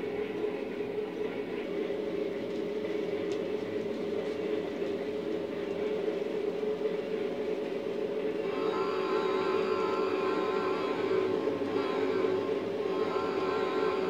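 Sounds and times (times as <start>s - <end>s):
model trains rumbling and humming: 0.0s - 14.0s.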